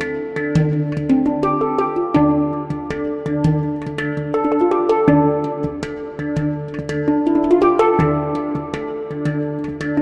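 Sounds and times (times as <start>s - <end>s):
rhythmic instrumental music: 0.0s - 10.0s.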